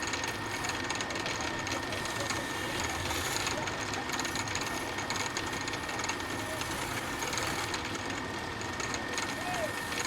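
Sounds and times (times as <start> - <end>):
machine running: 0.0 - 10.0.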